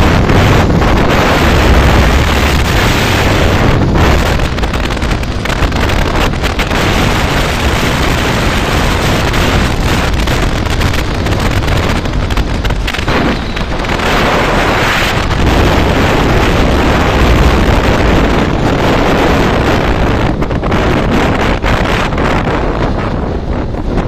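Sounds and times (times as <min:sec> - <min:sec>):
motorcycle road noise: 0:00.0 - 0:24.0
wind buffeting microphone: 0:00.0 - 0:24.0.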